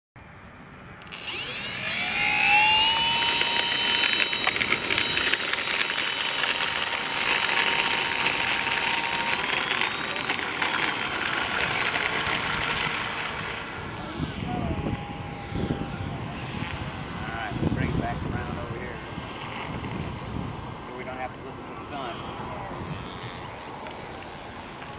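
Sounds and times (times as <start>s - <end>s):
model airplane motor whine: 1.0s - 24.9s.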